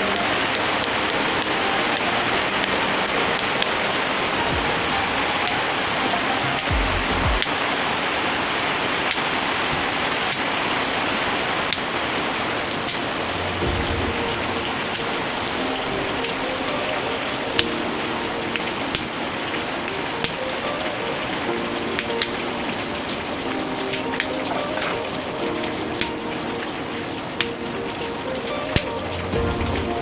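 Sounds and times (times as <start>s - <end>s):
heavy rain falling: 0.0s - 30.0s
sharp clicks of raindrops: 0.0s - 30.0s.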